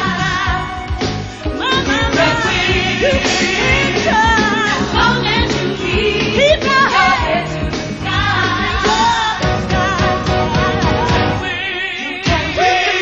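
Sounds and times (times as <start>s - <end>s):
bass line: 0.0s - 11.5s
women singing gospel: 0.0s - 13.0s
drum beat: 0.1s - 11.5s.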